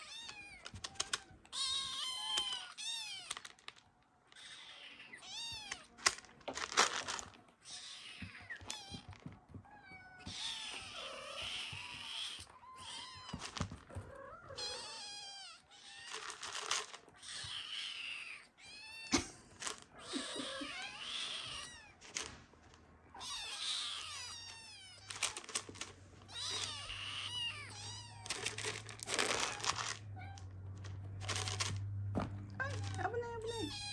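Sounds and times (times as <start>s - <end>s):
kittens meowing: 0.0s - 3.7s, 4.3s - 6.2s, 7.6s - 22.3s, 23.0s - 31.8s, 32.5s - 33.9s.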